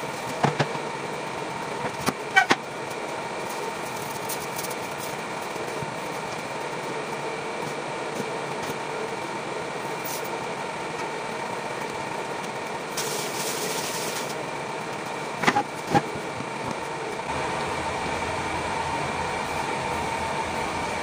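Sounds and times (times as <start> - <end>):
fan hum: 0.0 - 21.0.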